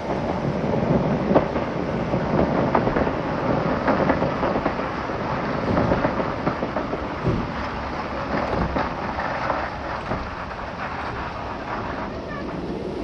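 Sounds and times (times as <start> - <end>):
train running on track: 0.0 - 13.0
wheels clicking on rails: 0.0 - 13.0.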